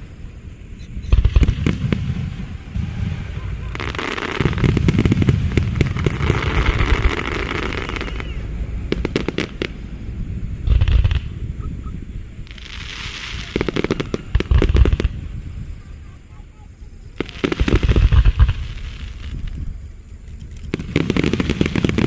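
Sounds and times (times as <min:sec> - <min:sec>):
fireworks booming: 0:00.0 - 0:19.8, 0:20.6 - 0:22.0
fireworks crackling: 0:00.0 - 0:22.0.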